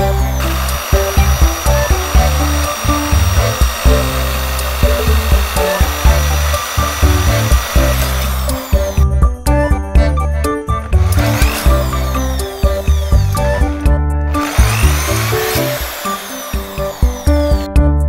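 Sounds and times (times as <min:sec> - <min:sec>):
electric drill boring into metal: 0:00.0 - 0:09.1, 0:10.8 - 0:17.7
background music with bass: 0:00.0 - 0:18.0.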